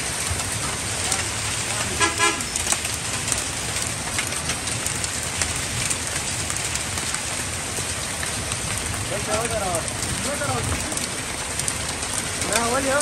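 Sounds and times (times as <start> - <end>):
rain on dirt street: 0.0 - 13.0.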